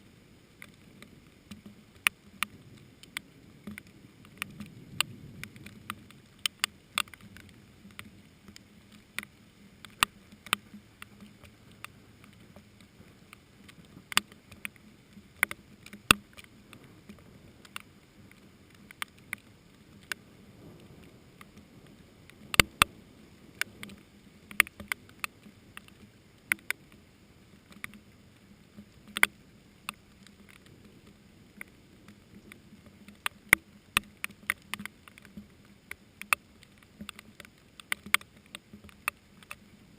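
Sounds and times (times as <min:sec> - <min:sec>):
faint hiss of rain: 0:00.0 - 0:39.9
raindrops ticking on plants: 0:00.0 - 0:39.9.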